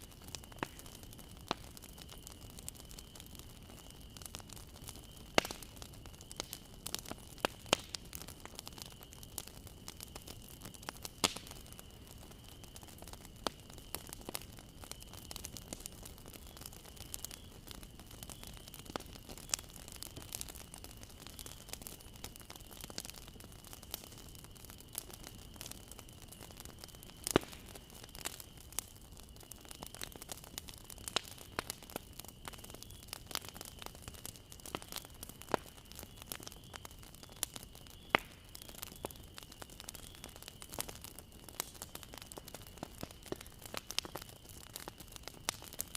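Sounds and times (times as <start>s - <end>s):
bonfire crackling and popping: 0.0s - 45.9s.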